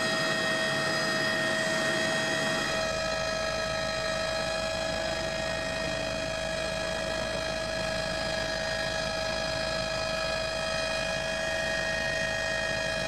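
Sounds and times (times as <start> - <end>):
helicopter running: 0.0 - 13.0.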